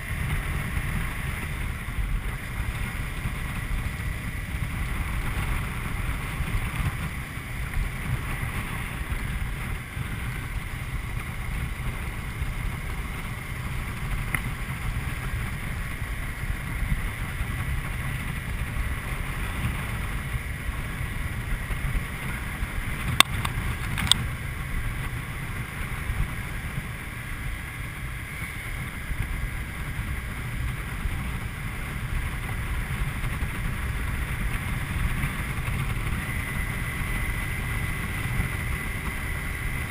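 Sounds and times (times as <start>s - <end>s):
motorcycle engine running: 0.0s - 39.9s
wind buffeting camera: 0.0s - 39.9s.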